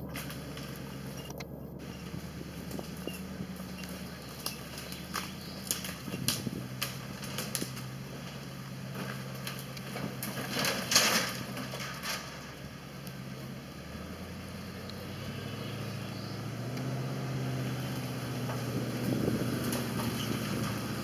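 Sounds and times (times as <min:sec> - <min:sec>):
vehicle engine at low revs: 0:00.0 - 0:21.0.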